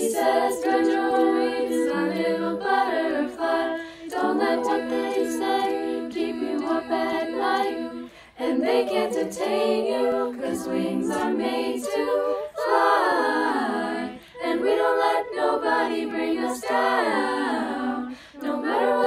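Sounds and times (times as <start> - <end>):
female voices singing in harmony: 0.0 - 19.0.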